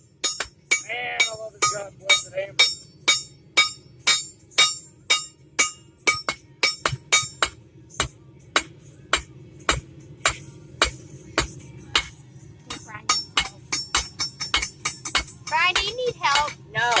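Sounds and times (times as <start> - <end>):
hammer striking metal on anvil: 0.0 - 17.0.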